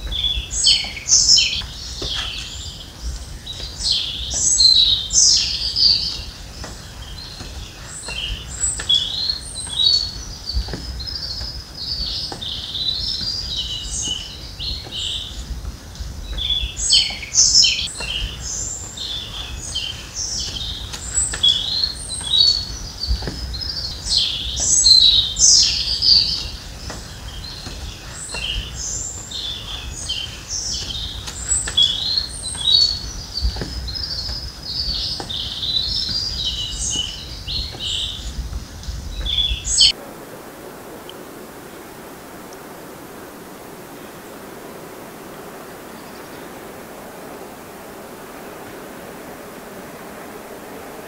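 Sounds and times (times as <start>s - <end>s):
songbirds chirping and trilling: 0.0s - 51.0s.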